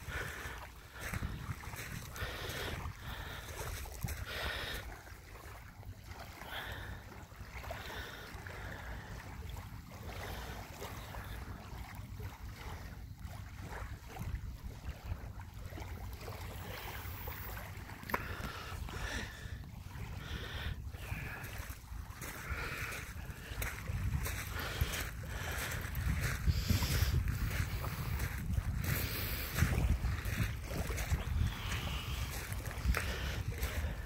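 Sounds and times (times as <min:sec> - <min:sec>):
waves lapping on pebble shore: 0:00.0 - 0:34.0
wind rumbling on microphone: 0:00.0 - 0:34.0.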